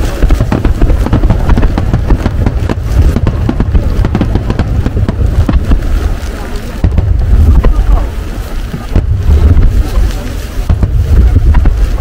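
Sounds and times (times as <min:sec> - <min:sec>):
fireworks bangs and crackles: 0:00.0 - 0:12.0
low rumble: 0:00.0 - 0:12.0.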